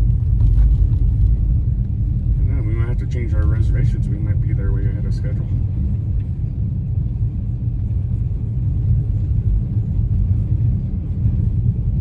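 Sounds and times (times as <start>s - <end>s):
road and tyre noise in car: 0.0s - 12.0s.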